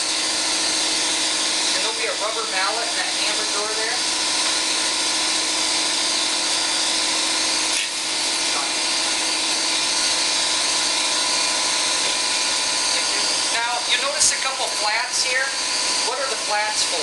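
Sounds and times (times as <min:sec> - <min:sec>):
machine running with hissing whir: 0:00.0 - 0:17.0.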